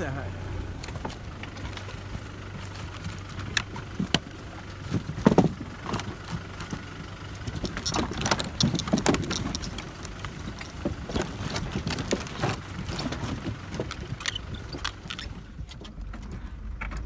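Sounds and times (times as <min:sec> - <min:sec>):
low engine rumble: 0:00.0 - 0:17.0
logs knocking under tyres: 0:00.8 - 0:17.0.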